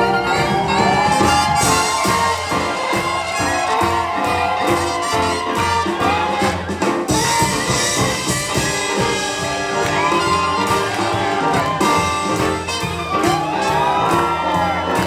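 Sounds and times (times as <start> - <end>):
swing jazz band playing: 0.0 - 15.0.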